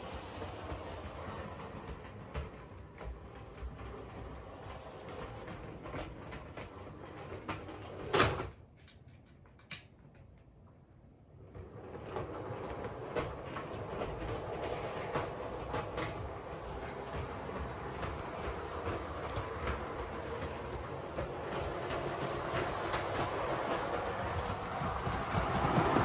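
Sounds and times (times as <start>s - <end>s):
model train running: 0.0s - 8.3s, 11.8s - 26.0s
wheels clicking over rail joints: 0.0s - 10.6s, 11.4s - 26.0s.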